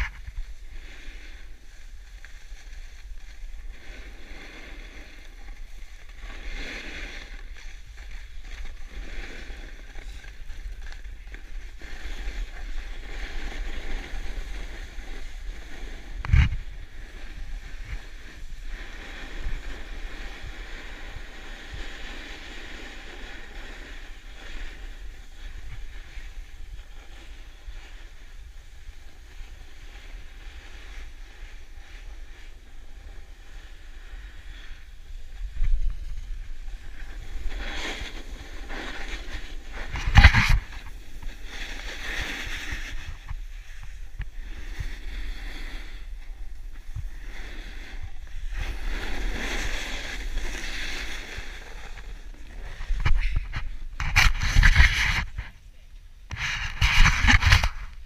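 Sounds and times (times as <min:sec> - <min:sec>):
skis scraping over snow: 0:00.0 - 0:55.7, 0:56.3 - 0:58.0
wind on microphone: 0:00.0 - 0:58.0.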